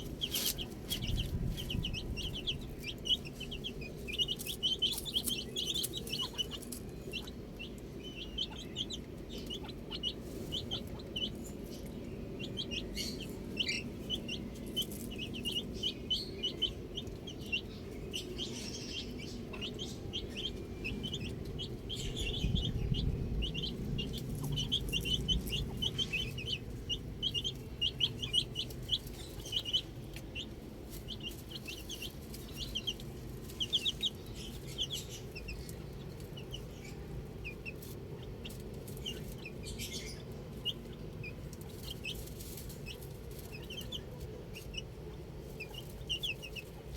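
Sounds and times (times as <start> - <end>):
low rumble: 0.0 - 39.6
baby chicks peeping: 0.0 - 46.9.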